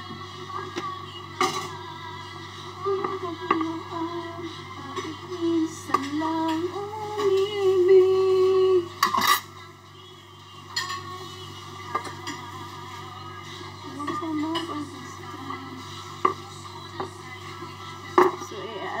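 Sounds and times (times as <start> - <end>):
song with sung melody: 0.0 - 19.0.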